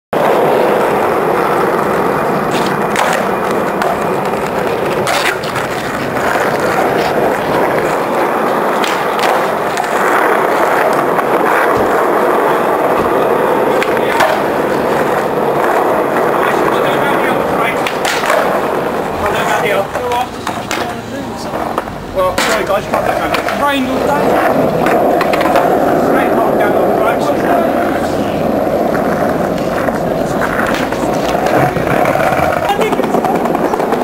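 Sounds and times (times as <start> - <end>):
skateboard wheels rolling on paving: 0.1 - 34.0.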